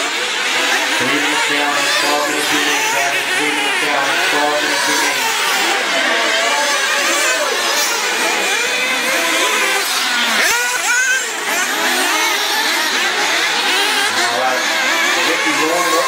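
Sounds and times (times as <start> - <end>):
rc buggy engines buzzing: 0.0 - 16.0.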